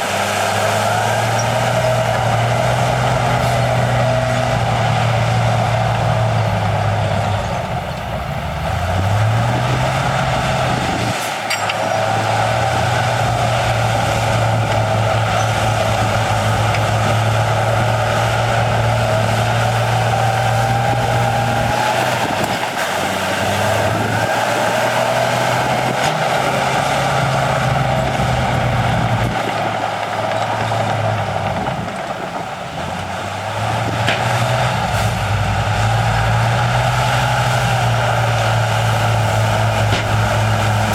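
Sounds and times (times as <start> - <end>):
heavy diesel machinery engine drone: 0.0 - 40.9.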